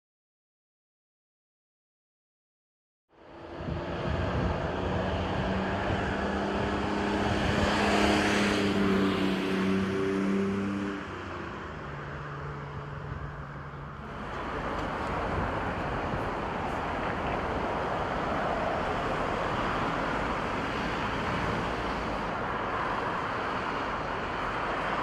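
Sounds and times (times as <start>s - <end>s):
engine hum: 3.1s - 25.0s
traffic noise: 3.1s - 25.0s
vehicle passing: 3.2s - 25.0s.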